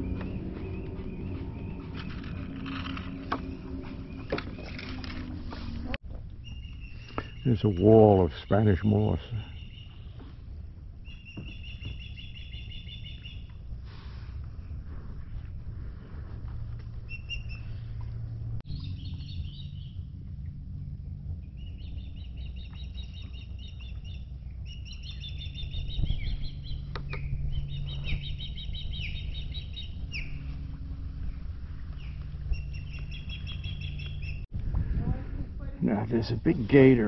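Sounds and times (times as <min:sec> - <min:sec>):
songbirds singing: 0:00.0 - 0:05.4, 0:06.4 - 0:13.6, 0:17.0 - 0:34.5
low steady hum: 0:00.0 - 0:37.0.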